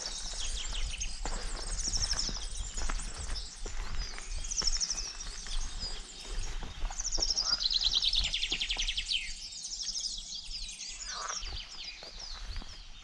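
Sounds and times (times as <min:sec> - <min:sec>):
footsteps on stony ground: 0:00.0 - 0:09.3, 0:10.0 - 0:13.0
songbirds chirping: 0:00.0 - 0:13.0.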